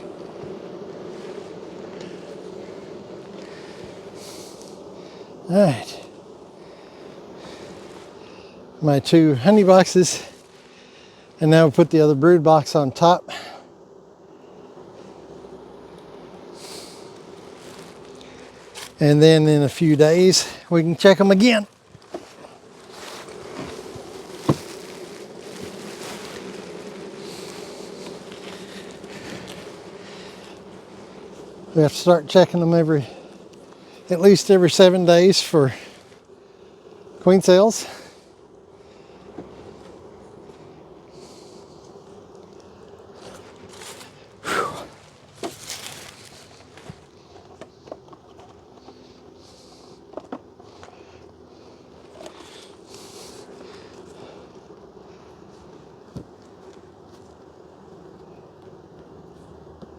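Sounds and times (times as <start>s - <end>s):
honey bees buzzing: 0.0s - 59.9s.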